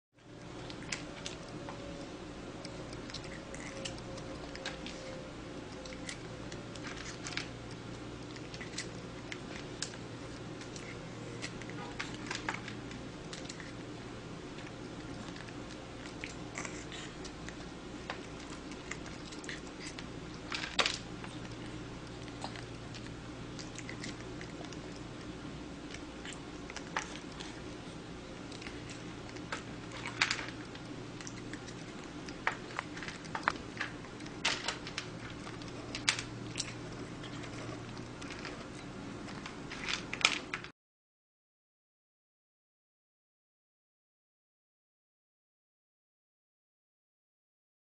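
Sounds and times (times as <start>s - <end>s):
kitten chewing and smacking: 0.2s - 40.6s
steady low hum: 0.2s - 40.7s.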